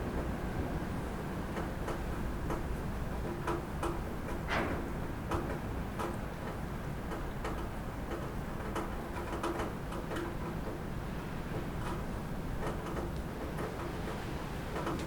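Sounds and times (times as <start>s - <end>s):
rain pattering on a roof: 0.0s - 15.0s.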